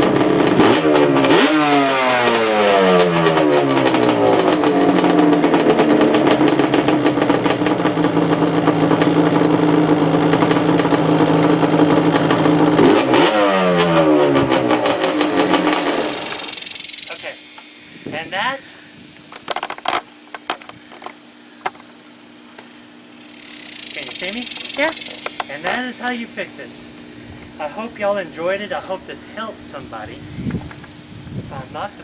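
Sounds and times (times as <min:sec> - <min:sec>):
two-stroke engine idling and revving: 0:00.0 - 0:17.6, 0:22.0 - 0:32.0.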